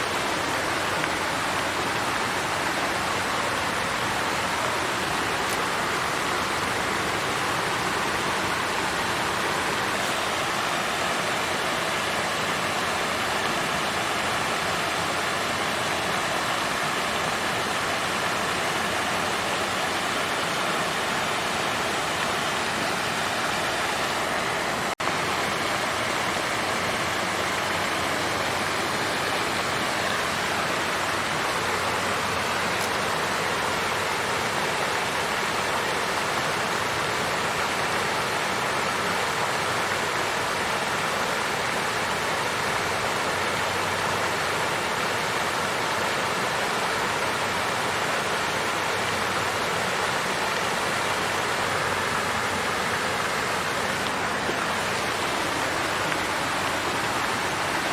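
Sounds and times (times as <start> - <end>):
water fountain splashing: 0.0 - 57.9.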